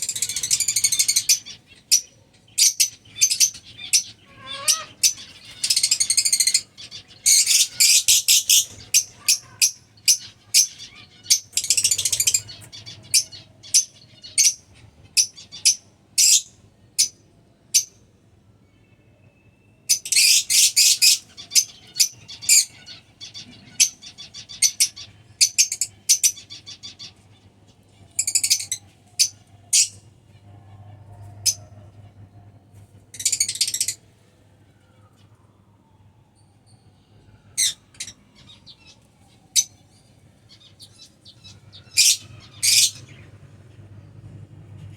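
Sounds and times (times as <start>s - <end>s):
lovebirds chirping: 0.0s - 17.1s, 19.9s - 32.4s, 37.6s - 44.2s.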